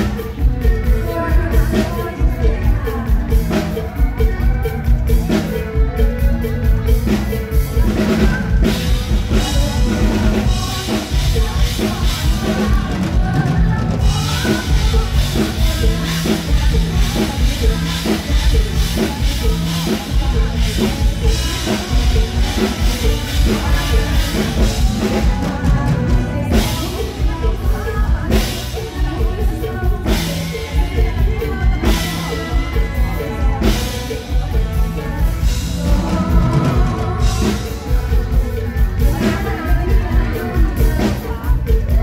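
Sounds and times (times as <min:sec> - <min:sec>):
live band music: 0:00.0 - 0:42.0
pulsing bass: 0:00.0 - 0:42.0
woman singing: 0:00.0 - 0:42.0.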